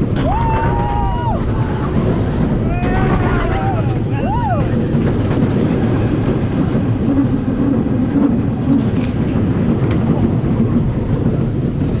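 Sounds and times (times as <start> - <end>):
roller coaster rumbling on track: 0.0 - 12.0
wind buffeting microphone: 0.0 - 12.0.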